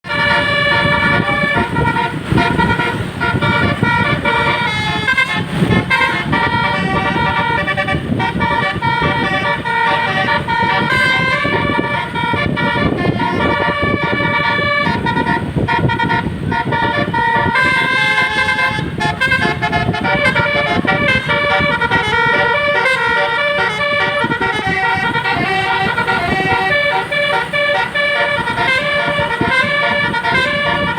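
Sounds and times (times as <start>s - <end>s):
multi-tone bus horn melody: 0.0s - 30.9s.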